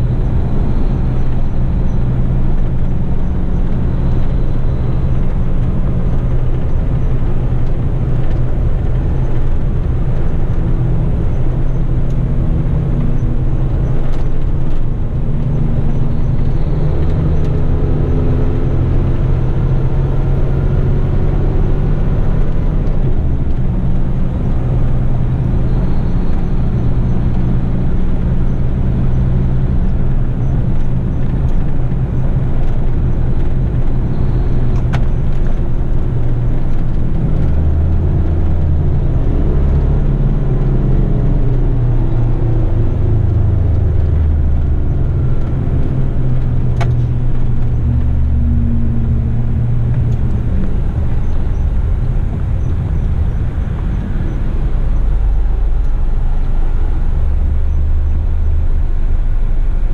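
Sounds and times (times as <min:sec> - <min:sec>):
road noise: 0:00.0 - 0:59.9
truck diesel engine running: 0:00.0 - 0:59.9.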